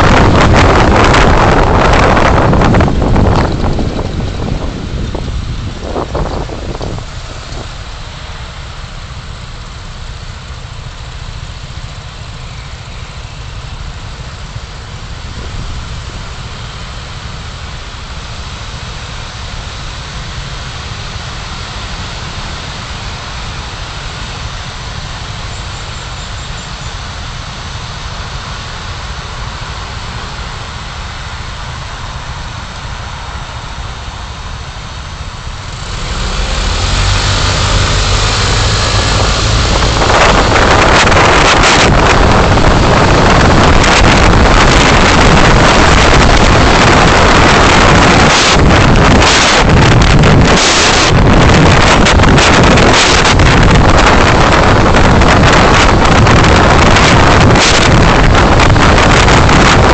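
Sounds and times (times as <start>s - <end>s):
engine and road rumble: 0.0s - 59.9s
tyre and wind hiss: 0.0s - 59.9s.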